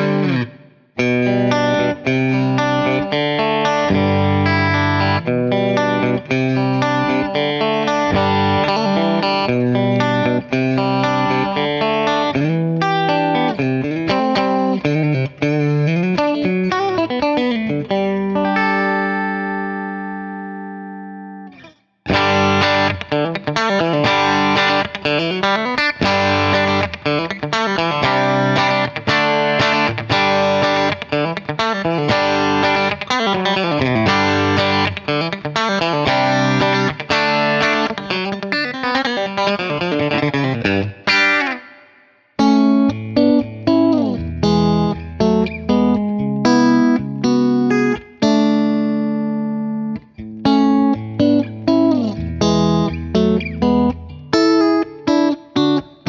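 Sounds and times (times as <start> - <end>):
clean electric guitar chords: 0.0 - 56.0.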